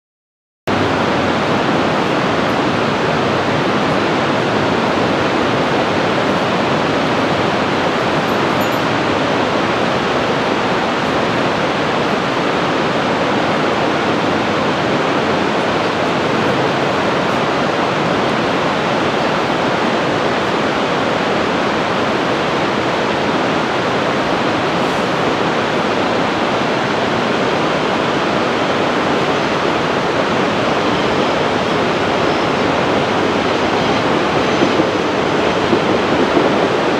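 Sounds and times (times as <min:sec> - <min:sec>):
mountain river rushing: 0:00.7 - 0:36.9.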